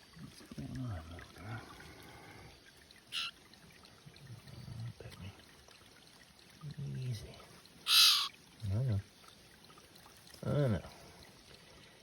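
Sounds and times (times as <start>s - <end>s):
trickle of running water: 0.0s - 12.0s.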